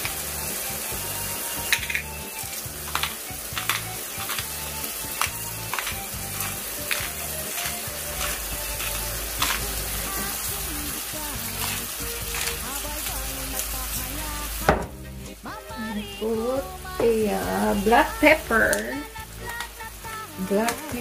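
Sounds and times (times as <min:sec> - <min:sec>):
crackling pops: 0:00.0 - 0:15.9, 0:17.0 - 0:21.0
shrimp sizzling in a pan: 0:00.0 - 0:21.0.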